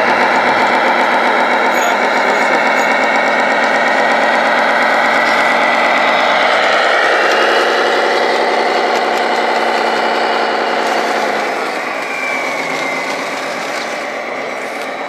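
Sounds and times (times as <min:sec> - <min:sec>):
model truck diesel engine: 0:00.0 - 0:15.0.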